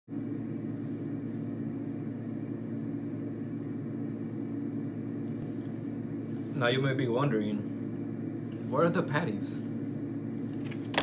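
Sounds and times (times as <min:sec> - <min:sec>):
steady low hum with hiss: 0:00.1 - 0:11.0.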